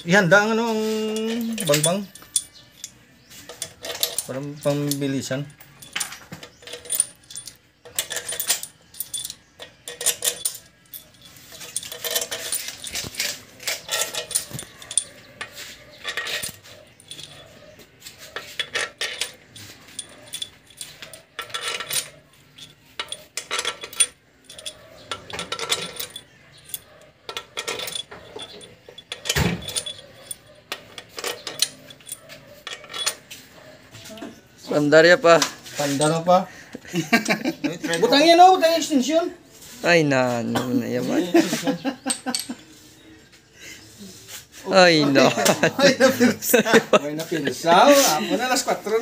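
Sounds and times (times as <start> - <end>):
metal bolts clinking: 0.0 - 39.1, 40.4 - 42.7, 45.0 - 49.0.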